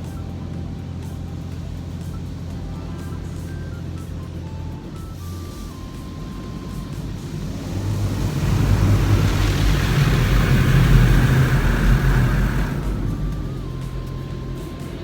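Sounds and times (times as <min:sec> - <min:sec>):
car wash rushing with low rumble: 0:00.0 - 0:15.0.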